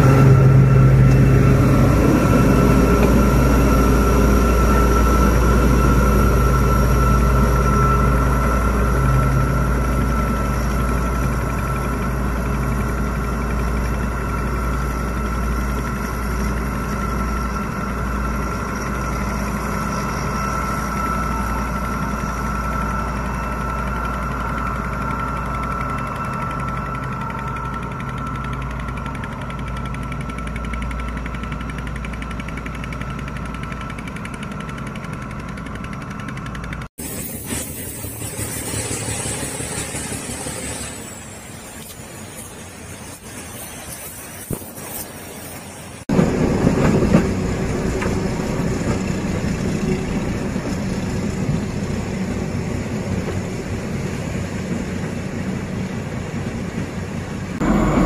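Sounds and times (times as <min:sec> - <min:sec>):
locomotive engine rumbling: 0:00.0 - 0:58.0.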